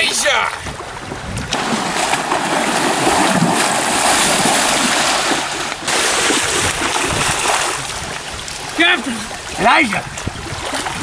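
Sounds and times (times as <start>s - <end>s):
water lapping against shore: 0.0s - 11.0s
wind on microphone: 0.0s - 11.0s
person wading through water: 0.5s - 11.0s.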